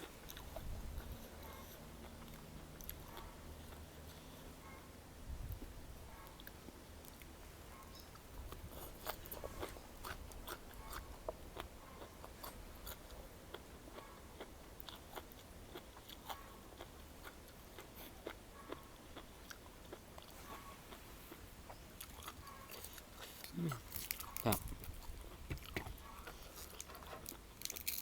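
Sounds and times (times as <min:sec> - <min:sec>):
person chewing crunchy food: 0:00.0 - 0:04.6, 0:06.4 - 0:28.0.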